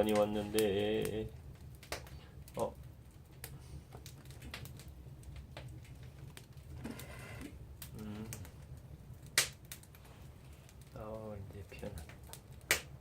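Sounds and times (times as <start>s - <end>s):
campfire crackling and popping: 0.0s - 13.0s
low steady rumble: 0.0s - 13.0s.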